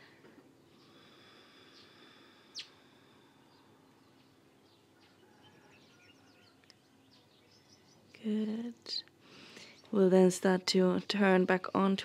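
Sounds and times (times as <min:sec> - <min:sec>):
birds chirping: 0:00.7 - 0:11.8.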